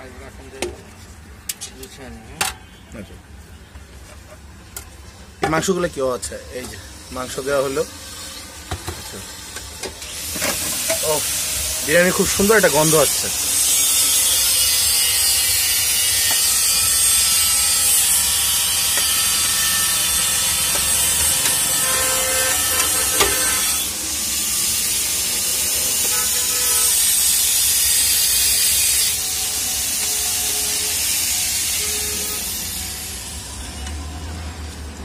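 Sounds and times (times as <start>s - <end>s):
traffic: 0.0s - 35.0s.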